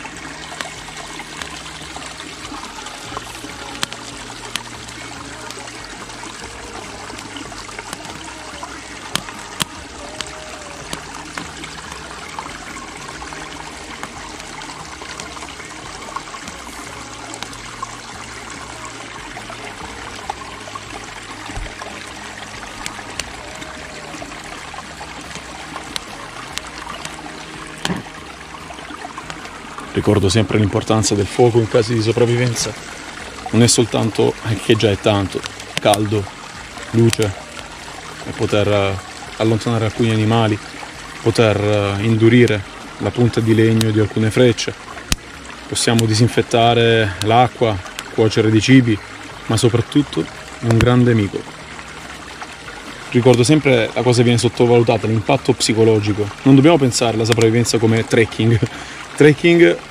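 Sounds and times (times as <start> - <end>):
kindling fire crackling: 0.0 - 59.9
stream running: 0.0 - 59.9.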